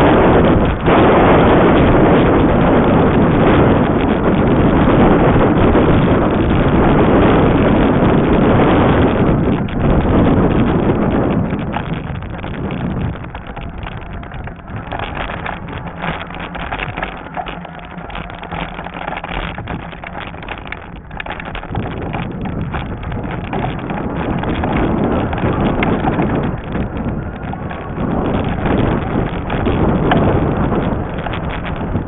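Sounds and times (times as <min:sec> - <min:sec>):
bike rattling over bumps: 0:00.0 - 0:32.0
wind buffeting microphone: 0:00.0 - 0:32.0.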